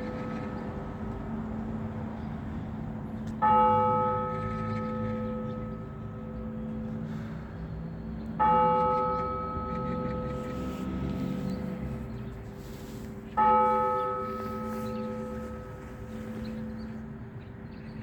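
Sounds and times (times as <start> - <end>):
large church bell tolling: 0.0 - 2.4, 3.3 - 7.1, 8.1 - 11.6, 13.2 - 18.0.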